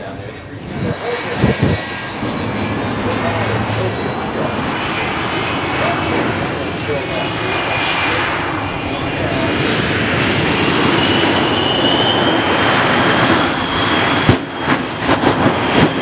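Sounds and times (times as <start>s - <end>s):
high whine: 0.0s - 16.0s
jet engines roaring: 0.0s - 16.0s.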